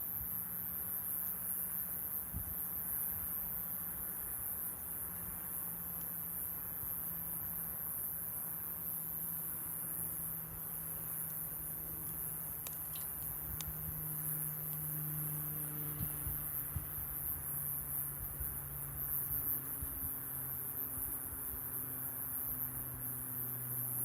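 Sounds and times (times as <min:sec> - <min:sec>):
high insect-like drone: 0:00.1 - 0:24.0.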